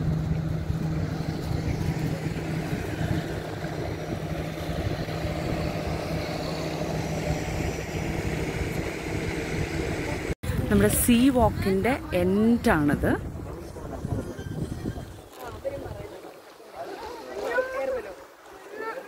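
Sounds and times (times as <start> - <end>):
boat engines droning: 0.0 - 19.0
wind and water hiss: 0.0 - 19.0.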